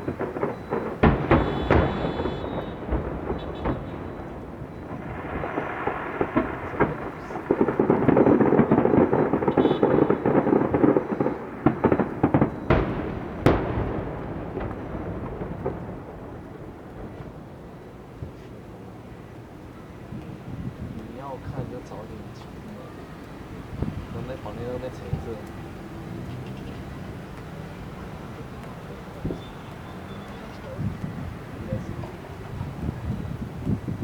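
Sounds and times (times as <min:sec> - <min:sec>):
fireworks booming: 0:00.0 - 0:34.0
sharp bangs: 0:00.0 - 0:34.0.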